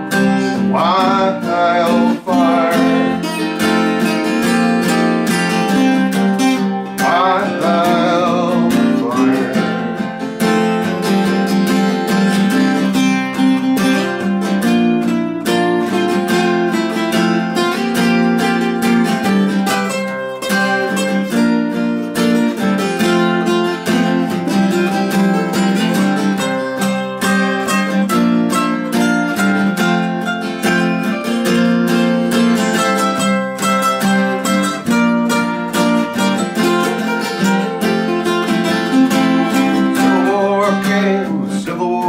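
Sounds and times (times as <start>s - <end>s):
strummed acoustic guitar: 0.0s - 42.0s.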